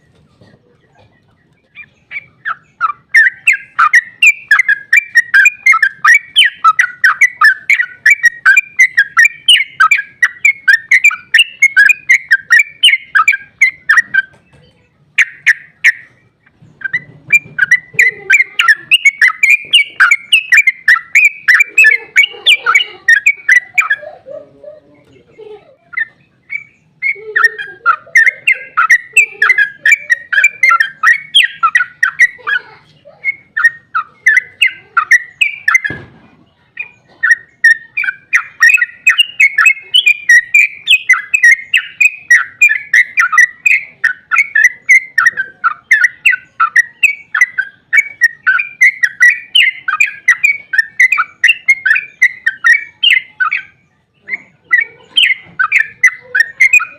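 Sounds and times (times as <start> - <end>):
bird singing rapid chattering notes: 0.0 - 56.9.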